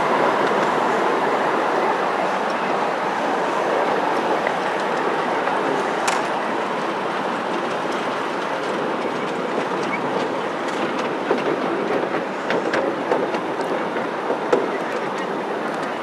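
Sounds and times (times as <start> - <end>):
rail joint clicks: 0.0 - 2.6, 3.5 - 16.0
train wheels rumbling on rails: 0.0 - 16.0.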